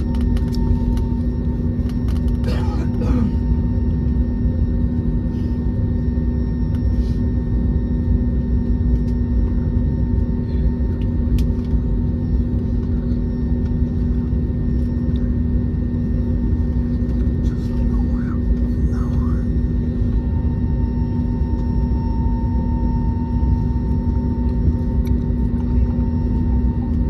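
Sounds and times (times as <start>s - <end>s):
airplane cabin low rumble: 0.0s - 27.0s
constant drone: 0.0s - 27.0s.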